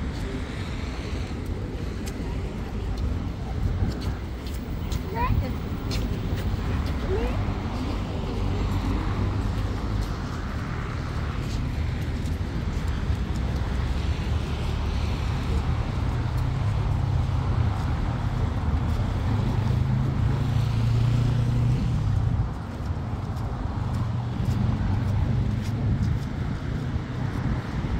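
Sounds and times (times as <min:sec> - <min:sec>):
motor traffic hum: 0:00.0 - 0:27.9.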